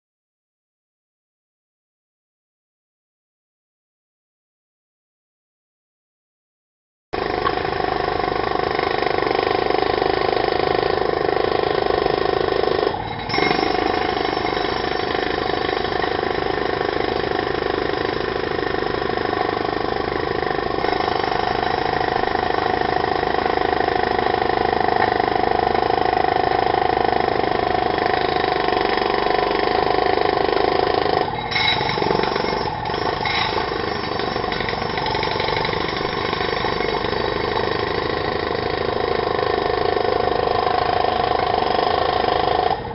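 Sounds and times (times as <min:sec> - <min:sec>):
jackhammer running: 0:07.2 - 0:42.9.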